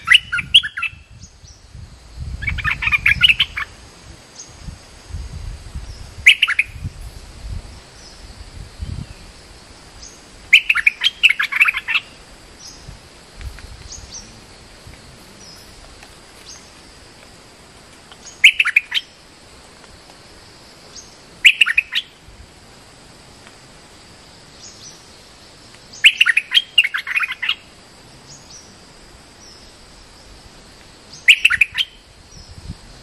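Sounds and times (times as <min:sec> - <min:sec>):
bulbuls singing: 0:00.0 - 0:01.8, 0:02.4 - 0:04.8, 0:05.8 - 0:22.3, 0:23.4 - 0:32.7.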